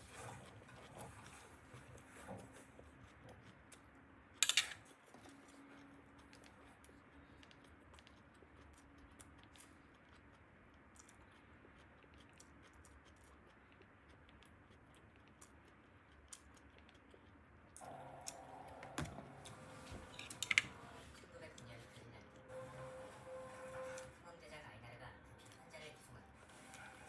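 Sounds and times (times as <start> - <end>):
quiet room hum: 0.0 - 27.0.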